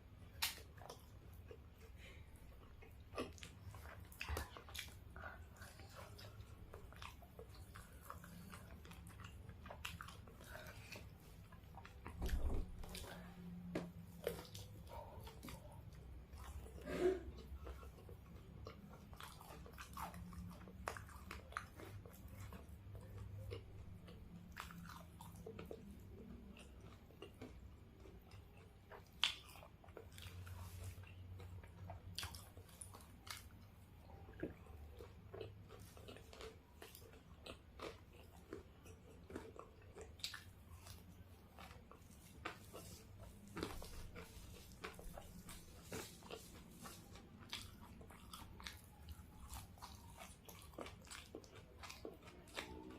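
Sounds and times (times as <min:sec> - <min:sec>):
biting and chewing fried chicken: 0:00.0 - 0:52.9.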